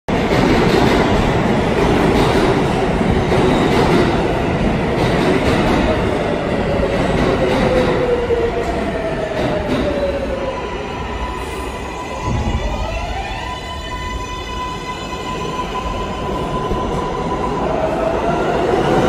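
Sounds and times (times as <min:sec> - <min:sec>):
subway train rumbling: 0:00.1 - 0:19.0.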